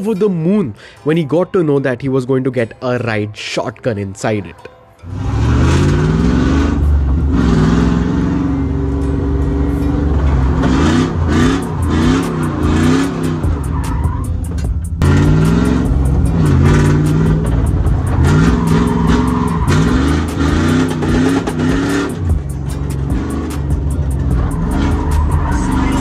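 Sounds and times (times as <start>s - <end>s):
car engine revving: 5.0s - 26.0s.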